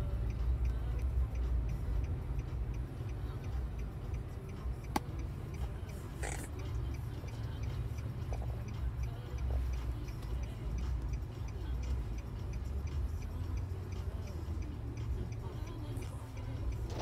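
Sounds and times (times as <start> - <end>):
light steady ticking: 0.0 - 17.0
vehicle rumble from inside cab: 0.0 - 17.0.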